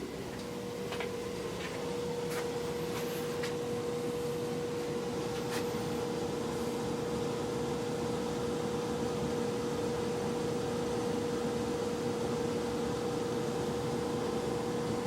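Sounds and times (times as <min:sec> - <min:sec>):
air exchanger humming: 0:00.0 - 0:15.0.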